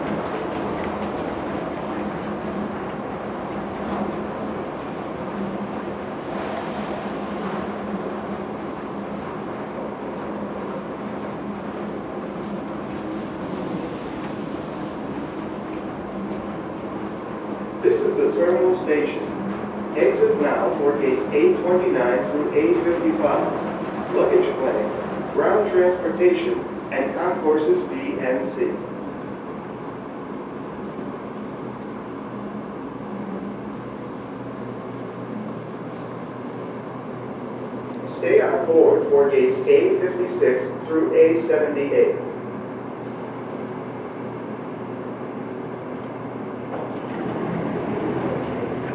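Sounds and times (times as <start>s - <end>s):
train rumbling: 0.0s - 48.9s.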